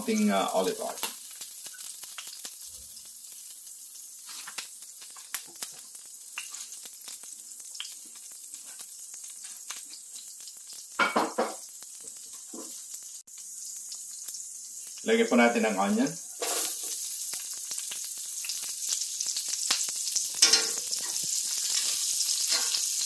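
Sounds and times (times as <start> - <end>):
oil sizzling in skillet: 0.0 - 23.0.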